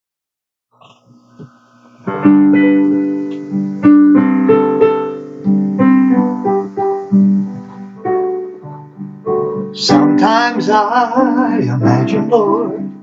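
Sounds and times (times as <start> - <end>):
slow piano: 0.8 - 13.0.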